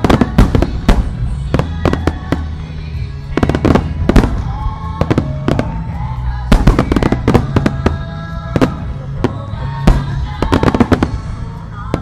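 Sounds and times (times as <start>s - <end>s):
fireworks bangs and crackles: 0.0s - 12.0s
music: 0.0s - 12.0s.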